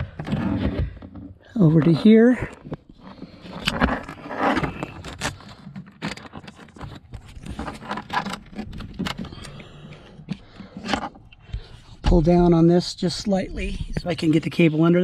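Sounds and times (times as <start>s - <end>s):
cable scraping and rustling: 0.0s - 12.2s.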